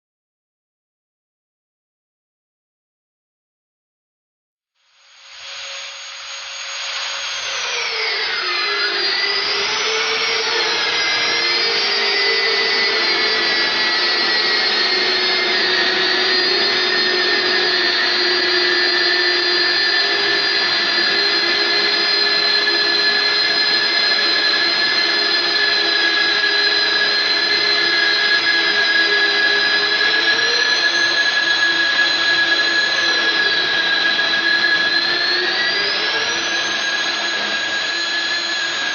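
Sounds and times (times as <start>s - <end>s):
magnetic drill motor whining: 5.0s - 38.9s.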